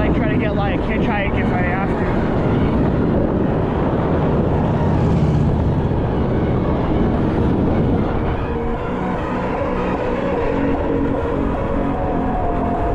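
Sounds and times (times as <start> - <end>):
vehicle rumbling in motion: 0.0 - 12.9
wind noise on microphone: 0.0 - 12.9.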